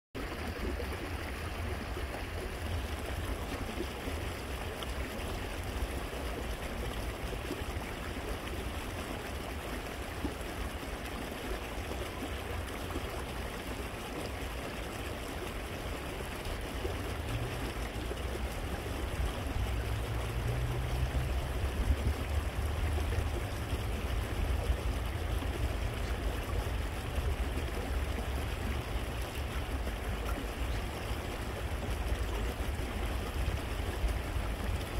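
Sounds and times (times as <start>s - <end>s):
stream trickling over stones: 0.2s - 34.9s.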